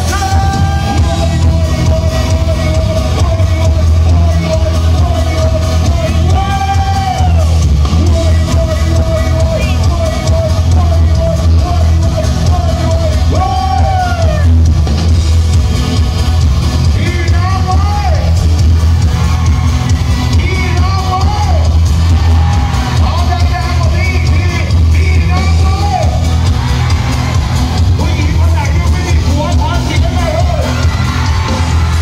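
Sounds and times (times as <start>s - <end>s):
live band music: 0.0s - 32.0s.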